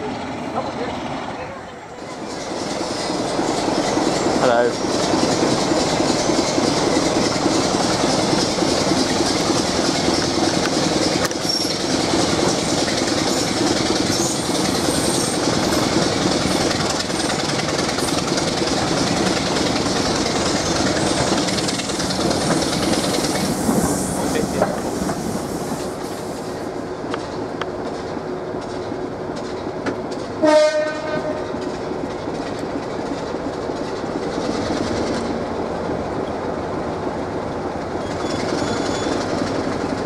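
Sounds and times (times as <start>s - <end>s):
wheel-on-rail rushing noise: 0.0s - 40.0s
train wheels clicking over rail joints: 2.0s - 40.0s.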